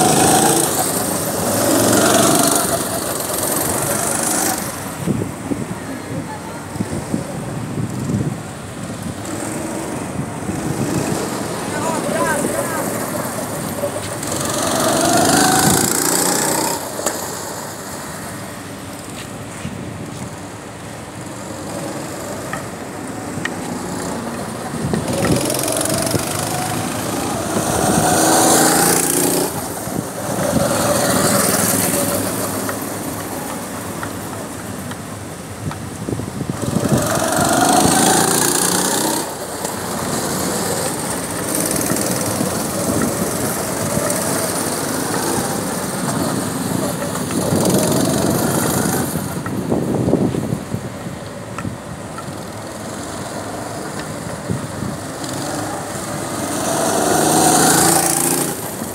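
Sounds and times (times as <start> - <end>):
go-kart engines revving: 0.0 - 58.9.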